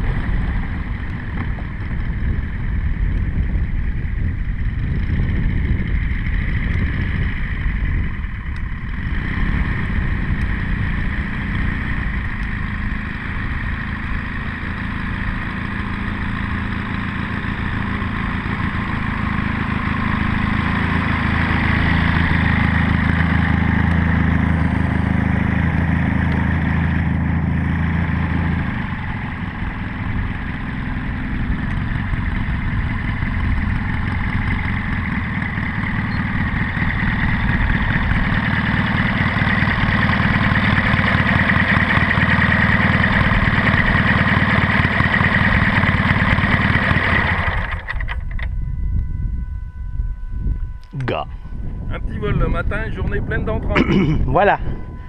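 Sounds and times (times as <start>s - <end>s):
model plane engine running: 0.0s - 55.0s.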